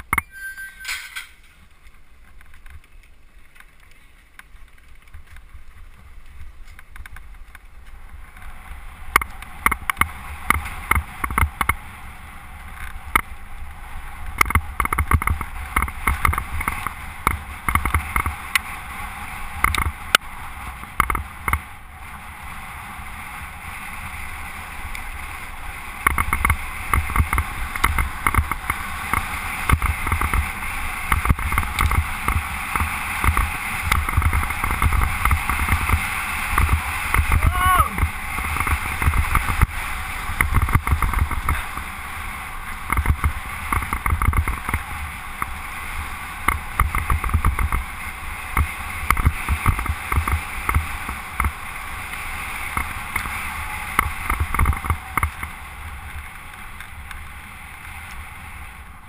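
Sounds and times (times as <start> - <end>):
wind noise: 0.0 - 59.0
bike knocks and rattles from bumps: 1.0 - 12.0, 14.2 - 21.8, 25.8 - 57.0
bike tyre rumble on gravel: 1.1 - 59.0.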